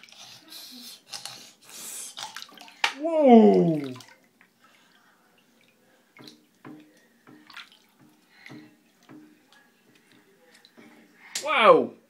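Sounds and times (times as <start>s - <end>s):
bathwater splashing: 0.0s - 11.4s.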